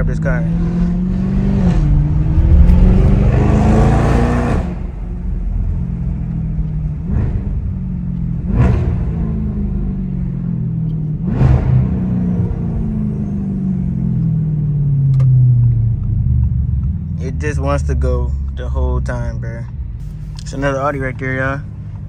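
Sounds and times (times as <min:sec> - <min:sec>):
car exhaust pulling hard: 0:00.0 - 0:22.0.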